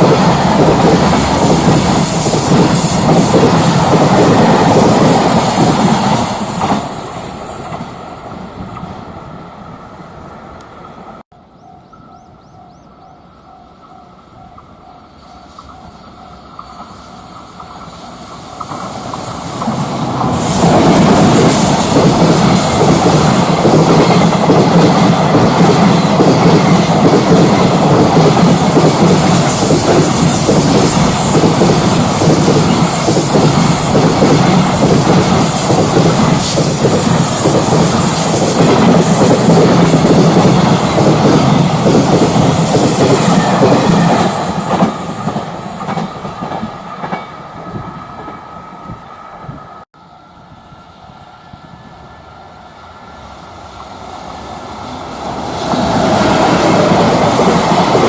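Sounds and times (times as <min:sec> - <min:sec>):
freight train passing: 0:00.0 - 0:58.0.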